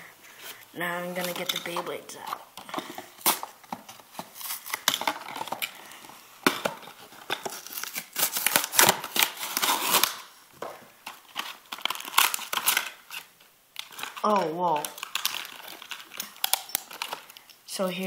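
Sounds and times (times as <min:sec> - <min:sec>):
packaging crinkling and tearing: 0:00.4 - 0:10.3, 0:10.9 - 0:17.6.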